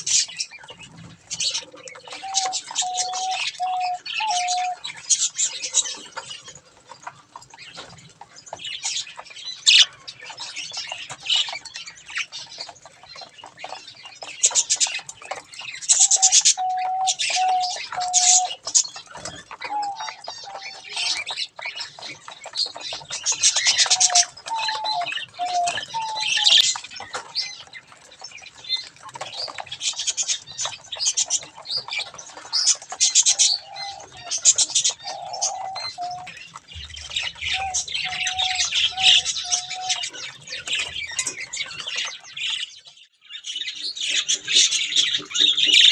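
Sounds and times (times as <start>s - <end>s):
budgerigars chattering: 0.0s - 7.9s, 8.6s - 27.8s, 28.5s - 42.7s.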